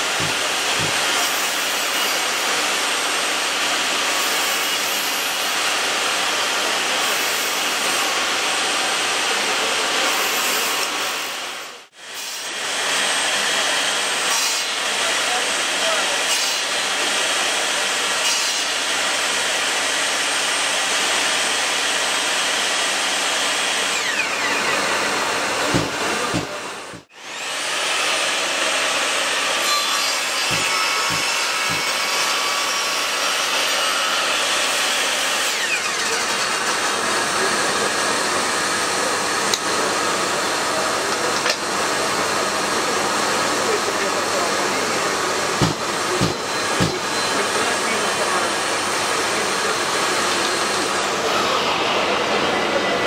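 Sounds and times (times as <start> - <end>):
falling whine of saw: 0.0 - 53.0
table saw cutting wood: 0.0 - 53.0.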